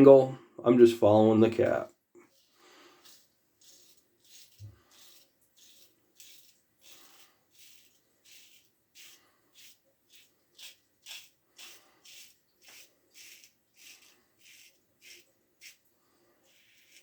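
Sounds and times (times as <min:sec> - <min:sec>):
razor scraping stubble: 0:02.2 - 0:17.0.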